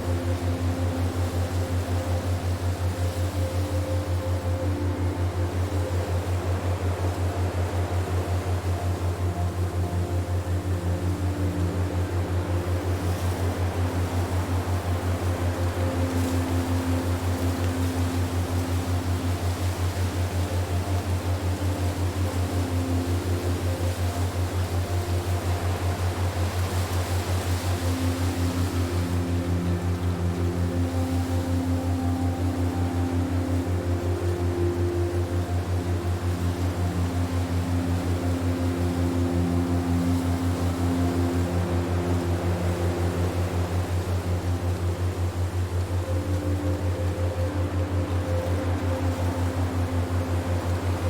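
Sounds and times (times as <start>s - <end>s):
held ambient tones: 0.0s - 51.0s
pulsing low hum: 0.0s - 51.0s
wind-like hiss: 0.0s - 51.0s.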